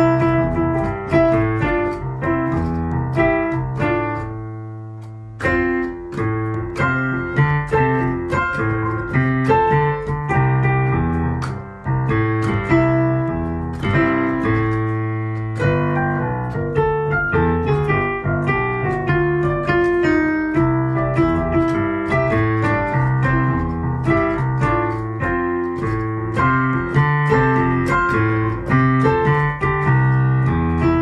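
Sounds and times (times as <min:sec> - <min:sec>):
boogie-woogie piano: 0:00.0 - 0:31.0.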